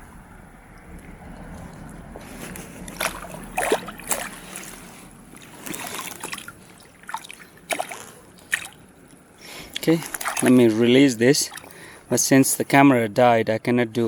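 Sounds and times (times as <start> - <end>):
water splashing and dribbling: 0.7 - 12.4.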